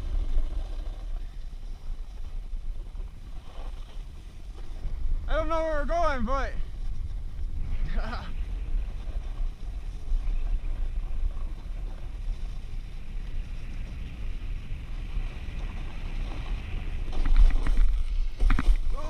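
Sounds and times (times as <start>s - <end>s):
board crunching into soft snow: 0.0s - 5.9s, 6.6s - 19.0s
snowboard scraping on snow: 0.0s - 5.9s, 6.7s - 19.0s
wind rumble on microphone: 0.0s - 19.0s.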